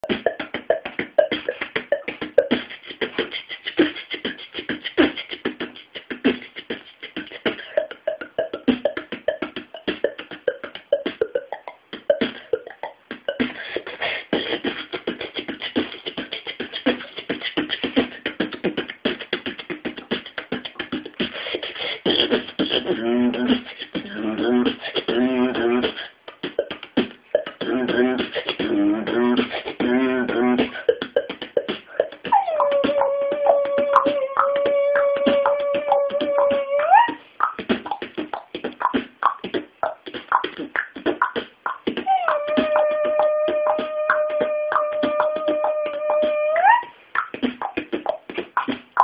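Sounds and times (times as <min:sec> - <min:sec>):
boy beatboxing: 0:00.0 - 0:49.0.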